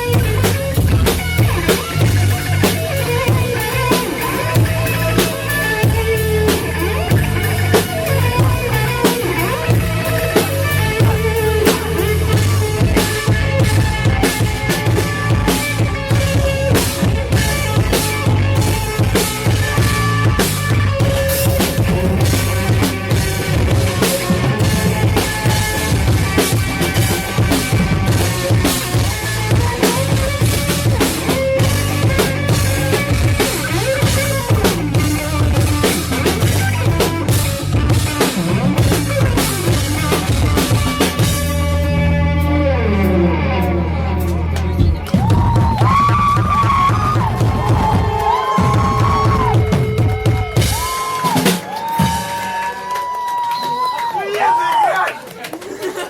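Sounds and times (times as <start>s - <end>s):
drum kit with crashing cymbals: 0.0s - 41.7s, 44.9s - 52.4s
sustained electric guitar notes: 0.0s - 51.0s
heavy bass line: 0.0s - 51.1s
post-rock band playing live: 0.0s - 54.0s.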